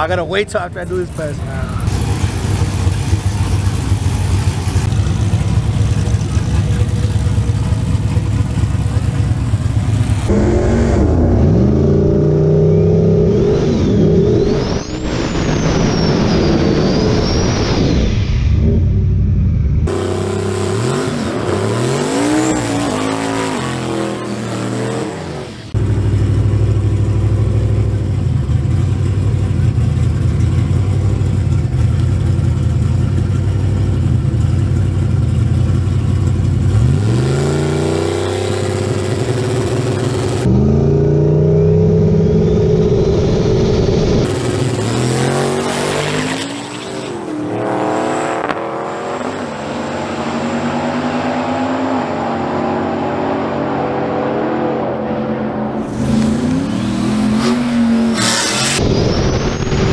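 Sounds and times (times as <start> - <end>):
truck engine revving: 0.0 - 17.8, 19.8 - 32.0, 36.6 - 59.9.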